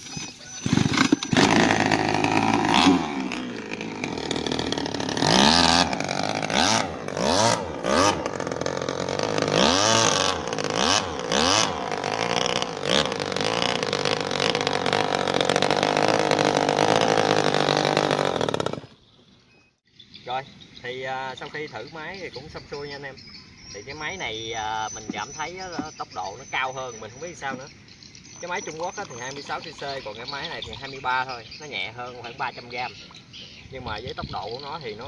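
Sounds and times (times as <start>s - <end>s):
propeller churning water: 0.0s - 19.0s, 22.3s - 35.0s
two-stroke engine revving: 0.0s - 19.0s, 23.8s - 35.0s.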